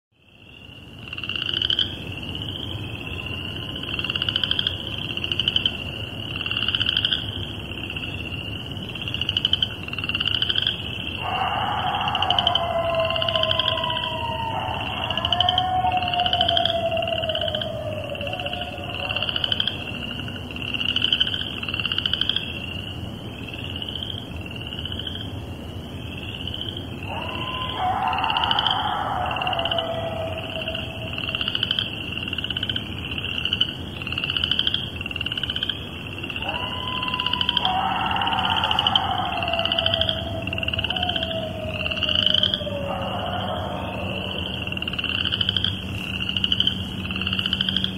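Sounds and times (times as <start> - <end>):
coyotes howling and yipping: 0.2 - 47.9
frogs trilling: 0.2 - 47.9.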